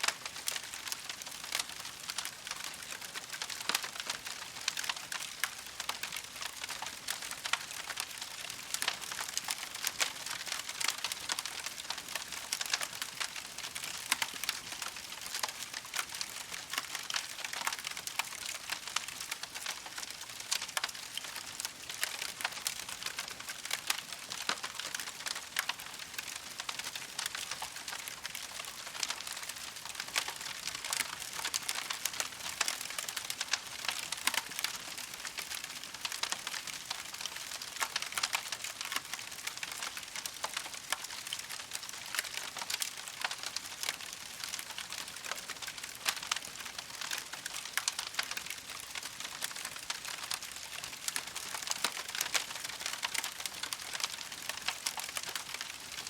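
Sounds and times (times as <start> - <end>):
campfire crackling: 0.1 - 56.0.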